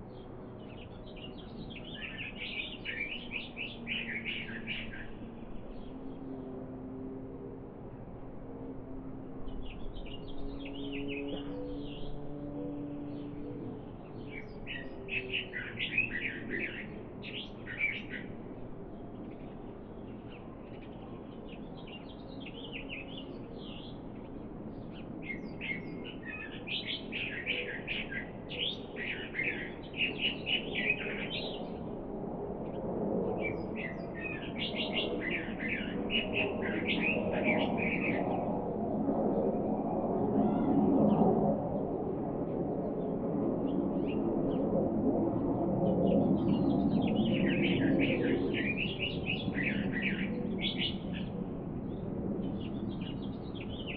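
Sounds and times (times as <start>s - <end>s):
small birds chirping: 0.0s - 7.1s, 9.4s - 32.0s, 32.6s - 39.0s, 45.4s - 53.9s.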